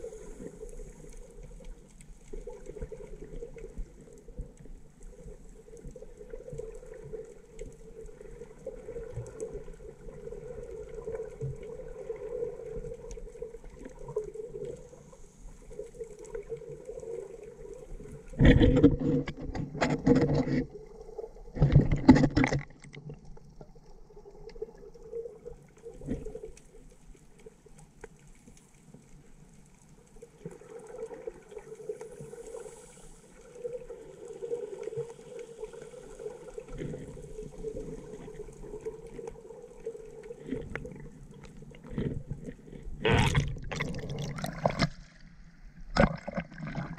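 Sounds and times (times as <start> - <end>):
water splashing and sloshing: 0.0 - 46.9.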